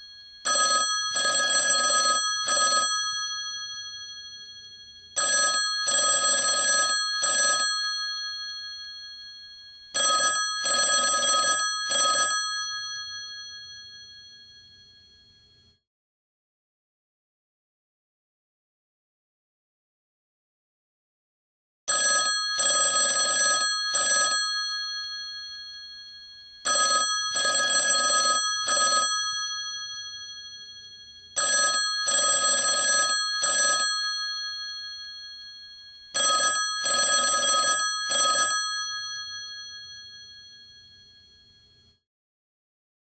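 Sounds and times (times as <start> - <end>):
telephone bell ringing: 0.0 - 15.8, 21.9 - 42.0.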